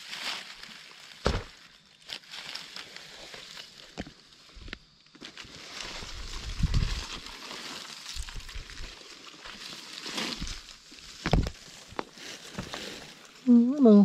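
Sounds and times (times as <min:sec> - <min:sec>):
undergrowth rustling and crackling: 0:00.0 - 0:14.0.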